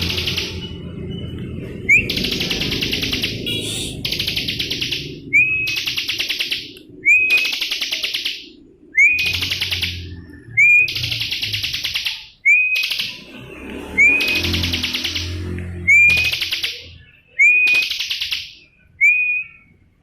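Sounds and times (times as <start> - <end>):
bird singing whistle and trill: 0.0 - 13.2, 13.9 - 19.9.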